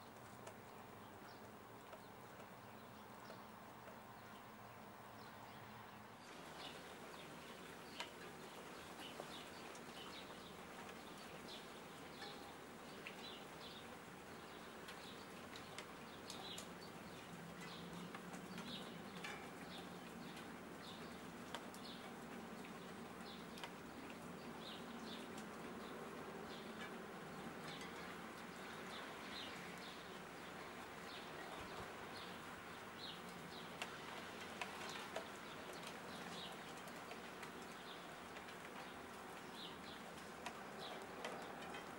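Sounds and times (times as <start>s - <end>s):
light rain: 0.0s - 41.9s.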